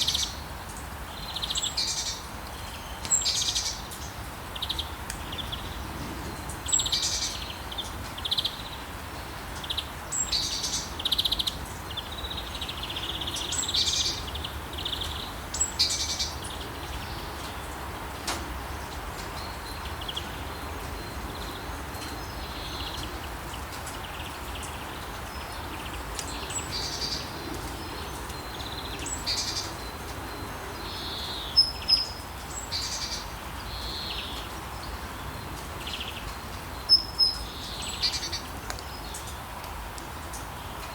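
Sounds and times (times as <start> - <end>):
songbirds chirping: 0.0 - 40.9
steady rain hiss: 0.0 - 40.9.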